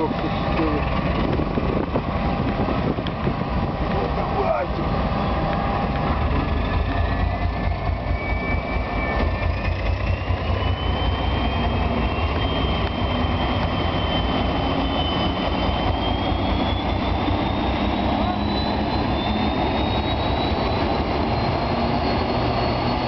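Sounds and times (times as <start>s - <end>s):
diesel locomotive engine rumble: 0.0s - 23.0s
high whine rising in pitch: 0.0s - 23.0s.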